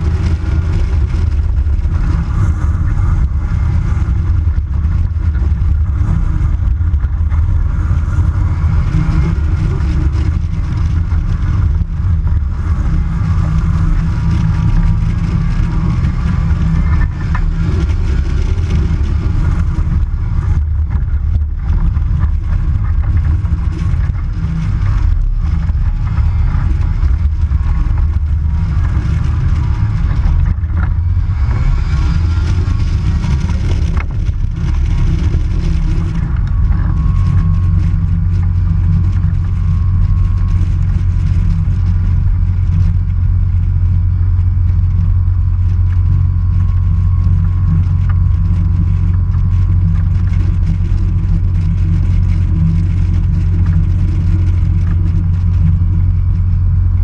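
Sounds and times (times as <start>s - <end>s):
aircraft engine and propeller running: 0.0s - 57.0s.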